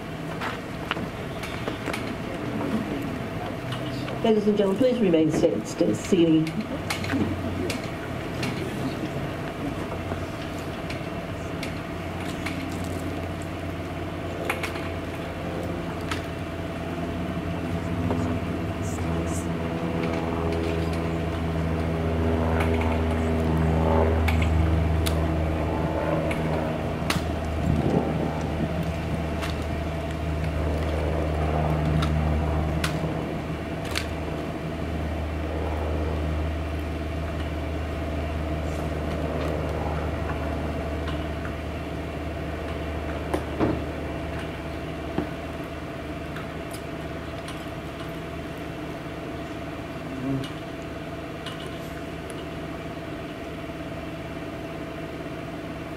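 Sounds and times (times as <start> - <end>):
low mechanical hum: 0.0 - 55.9.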